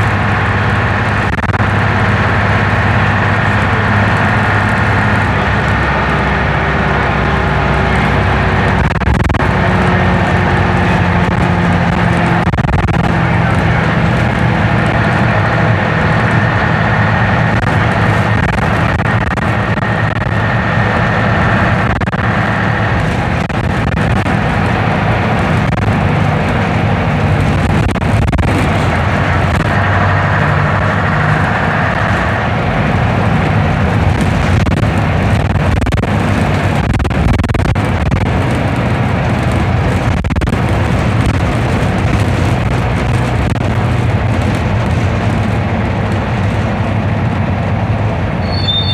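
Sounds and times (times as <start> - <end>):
bus diesel engine drone: 0.0 - 48.9
high whine: 0.0 - 48.9.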